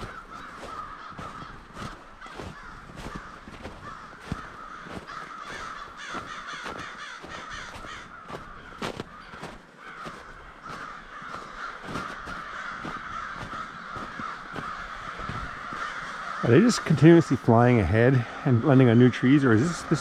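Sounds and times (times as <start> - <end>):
crows cawing: 0.0 - 20.0.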